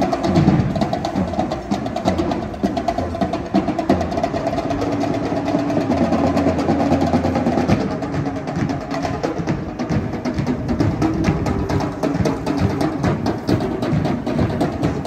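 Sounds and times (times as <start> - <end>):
marching drumline cadence: 0.0 - 15.0.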